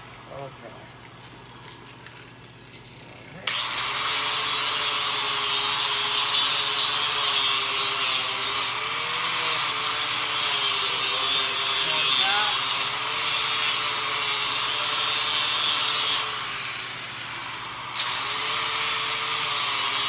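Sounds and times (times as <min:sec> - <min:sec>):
electric grinder grinding steel: 0:03.4 - 0:20.0.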